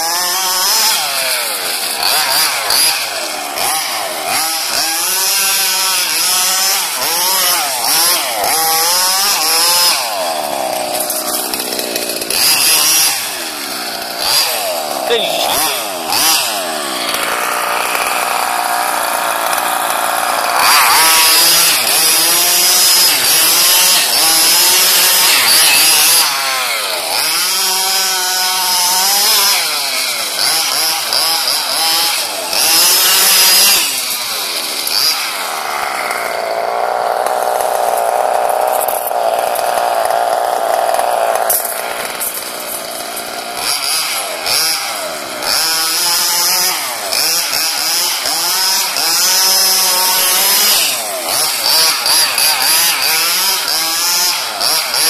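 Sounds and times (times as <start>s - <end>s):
rc car engine revving: 0.0s - 55.0s.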